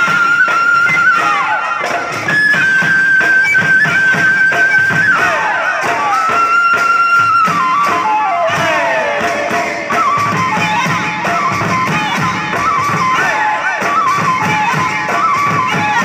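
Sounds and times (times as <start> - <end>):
high folk melody: 0.0 - 16.0
steady drum beat: 0.0 - 16.0.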